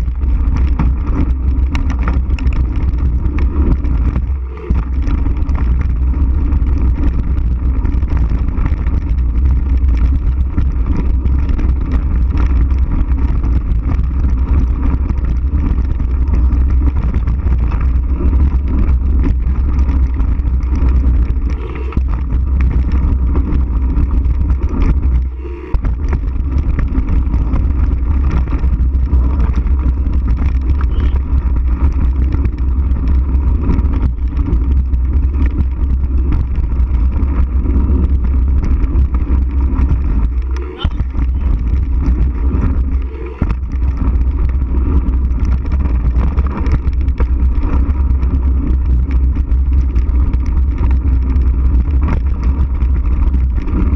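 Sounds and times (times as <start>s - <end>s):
bike rattling: 0.0s - 53.9s
bike tyres rolling on dirt: 0.0s - 53.9s
wind buffeting microphone: 0.0s - 53.9s.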